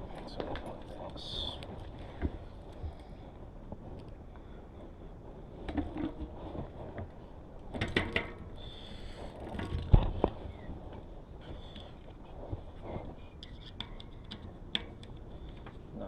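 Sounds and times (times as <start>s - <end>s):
bicycle wheel clicks and rustles: 0.0s - 16.0s.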